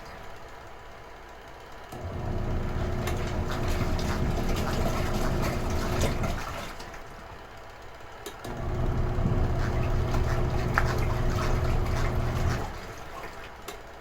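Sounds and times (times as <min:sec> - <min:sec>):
washing machine agitating: 0:02.0 - 0:07.7, 0:08.4 - 0:14.0.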